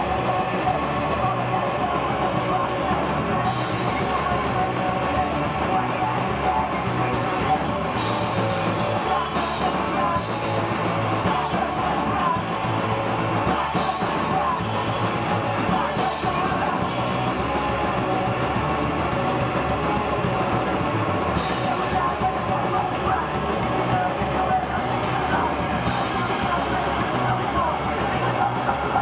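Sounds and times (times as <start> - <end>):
live rock band: 0.0 - 29.0.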